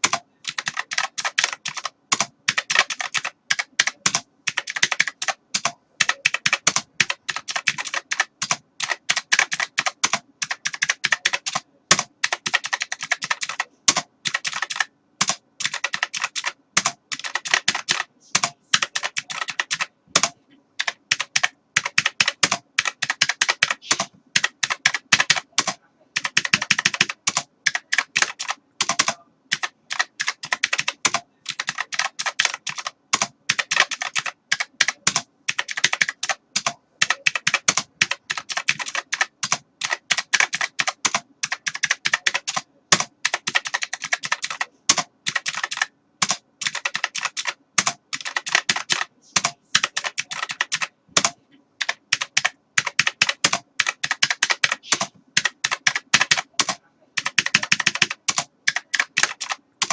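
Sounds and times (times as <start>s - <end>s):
typing on computer keyboard: 0.0s - 59.9s.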